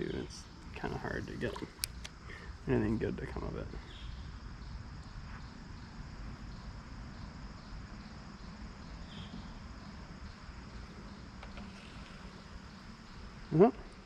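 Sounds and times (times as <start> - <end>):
insects trilling: 0.0 - 14.0
low outdoor rumble: 0.0 - 14.0.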